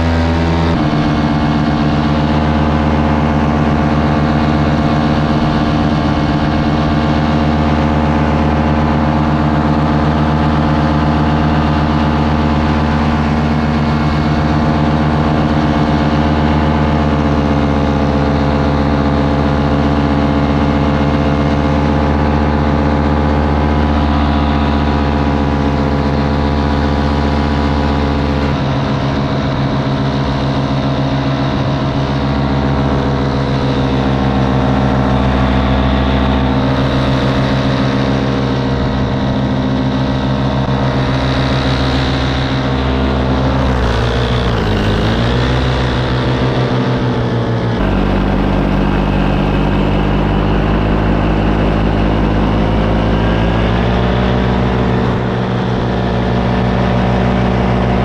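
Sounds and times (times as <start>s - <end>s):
paramotor engine running: 0.0s - 58.0s.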